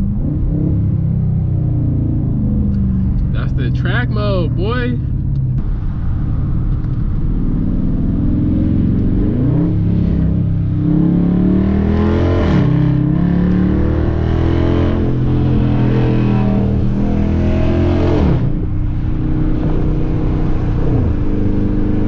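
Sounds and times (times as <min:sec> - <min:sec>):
car exhaust accelerating hard: 0:00.0 - 0:22.0.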